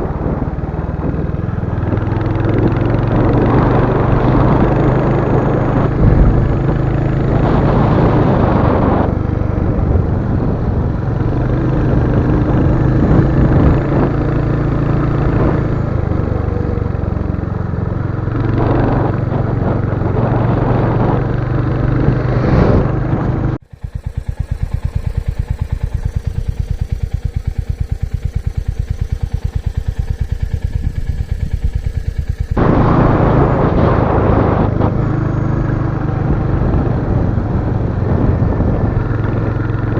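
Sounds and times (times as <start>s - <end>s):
motorcycle engine idling: 0.0s - 39.9s
motorcycle engine running while riding: 0.0s - 39.9s.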